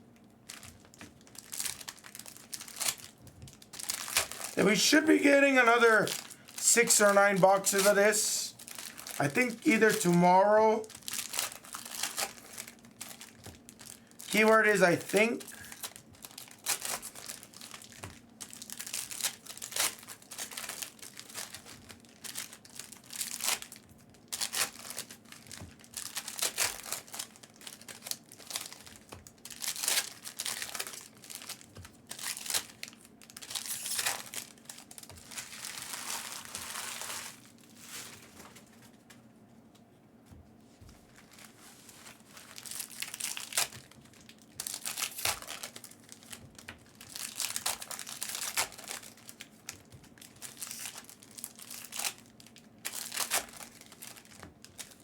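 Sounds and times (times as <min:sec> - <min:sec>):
card wrappers crinkling and tearing: 0:00.4 - 0:38.8, 0:41.1 - 0:55.0.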